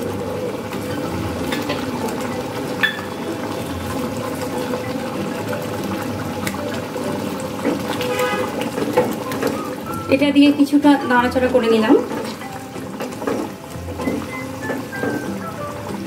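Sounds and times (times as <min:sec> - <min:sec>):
thick gravy bubbling: 0:00.0 - 0:16.0.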